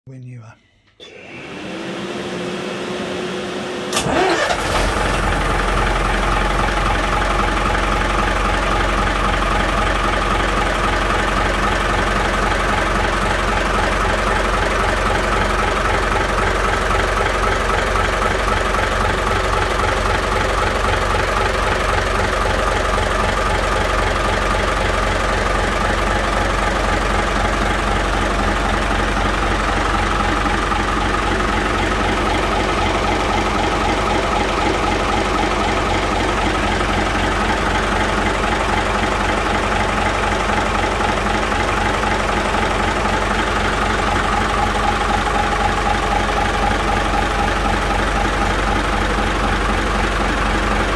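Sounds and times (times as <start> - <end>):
starter whine: 0.6 - 50.9
diesel engine idling: 0.9 - 50.9.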